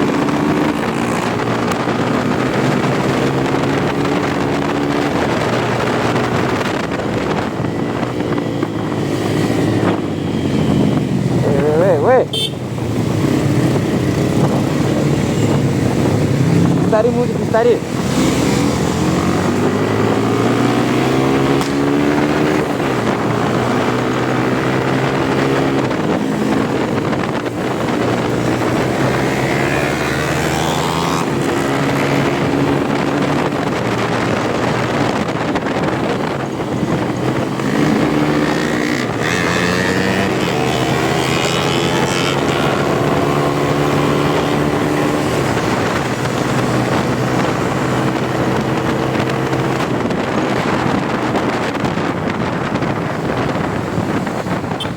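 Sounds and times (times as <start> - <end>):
motorcycle engine revving: 0.0 - 54.9
wind noise on microphone: 0.0 - 54.9.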